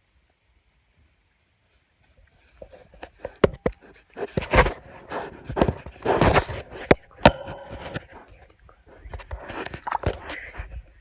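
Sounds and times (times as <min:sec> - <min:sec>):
pigs snuffling: 0:00.0 - 0:11.0.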